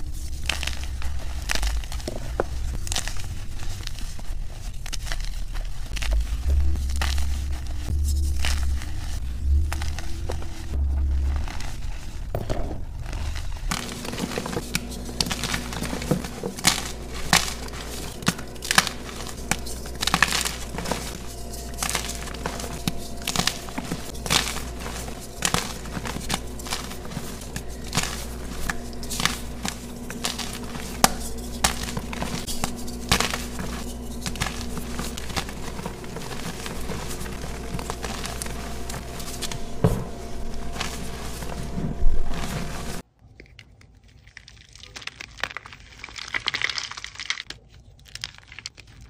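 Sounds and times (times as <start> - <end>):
chalk crunching by hand: 0.0 - 12.3, 12.9 - 43.0.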